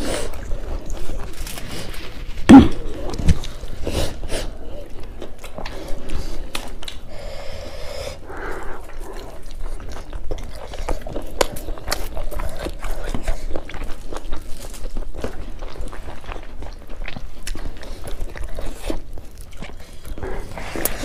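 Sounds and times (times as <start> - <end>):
chewing and lip-smacking: 0.0 - 7.1, 8.2 - 21.0.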